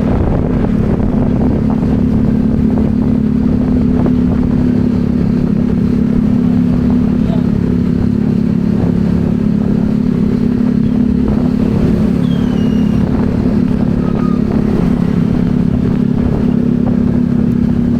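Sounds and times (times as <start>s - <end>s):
motorbike engine humming: 0.0s - 17.9s.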